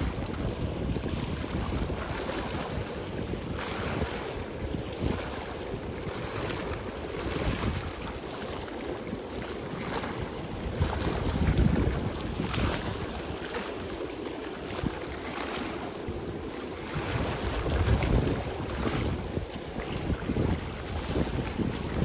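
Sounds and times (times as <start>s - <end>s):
sea waves washing on beach: 0.0s - 22.0s
wind buffeting microphone: 0.0s - 22.0s.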